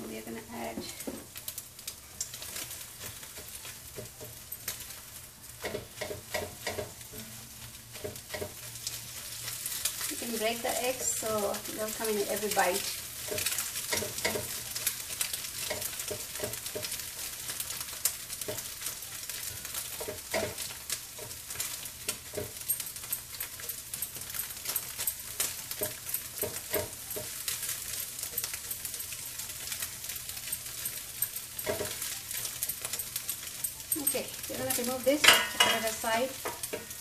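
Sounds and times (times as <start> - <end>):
eggs sizzling in oil: 0.0 - 37.0
spatula scraping pan: 2.2 - 37.0.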